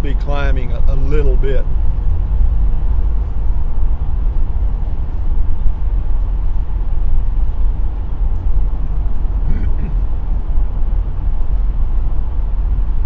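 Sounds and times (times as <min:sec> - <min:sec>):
engine drone and road noise: 0:00.0 - 0:13.0.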